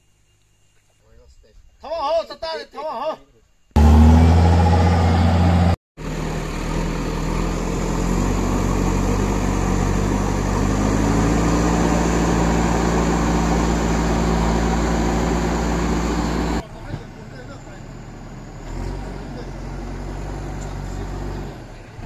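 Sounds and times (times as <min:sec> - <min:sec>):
diesel engine running: 0:03.8 - 0:22.0.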